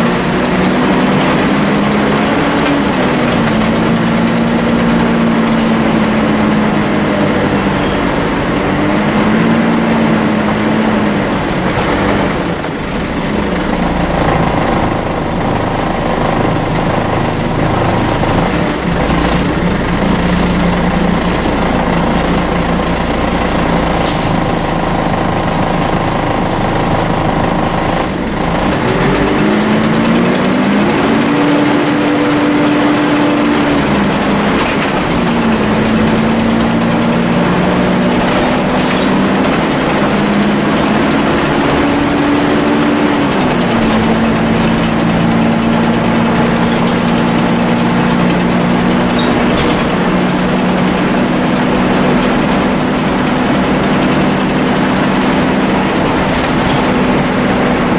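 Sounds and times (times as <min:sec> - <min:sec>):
bus diesel engine whining: 0:00.0 - 0:57.9.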